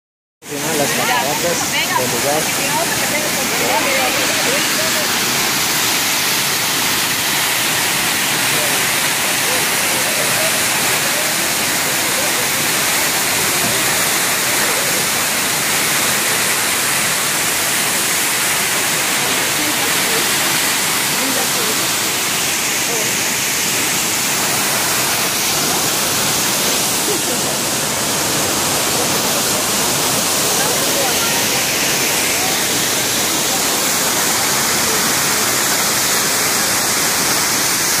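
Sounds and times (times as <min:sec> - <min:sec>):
waterfall rushing: 0:00.4 - 0:38.0.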